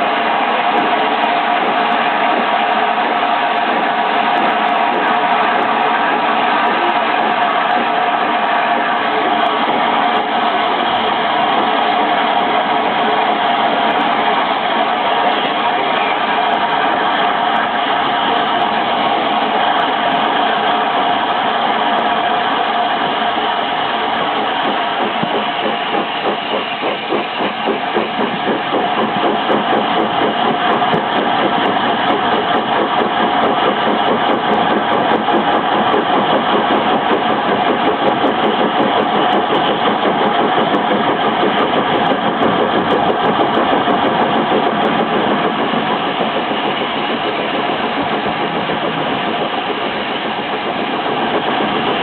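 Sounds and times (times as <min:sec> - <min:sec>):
fast even pulsing: 0:00.0 - 0:52.0
steam train running: 0:00.0 - 0:52.0.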